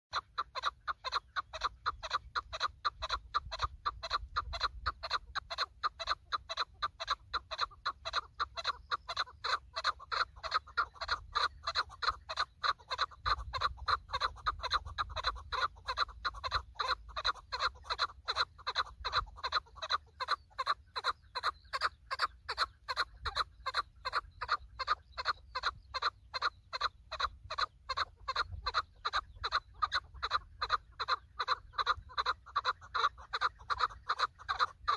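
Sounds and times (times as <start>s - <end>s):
partridge clucking calls: 0.1s - 34.9s.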